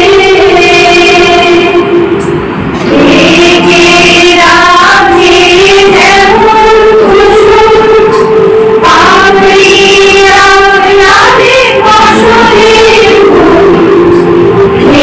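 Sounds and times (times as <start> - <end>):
women singing in unison: 0.0 - 15.0.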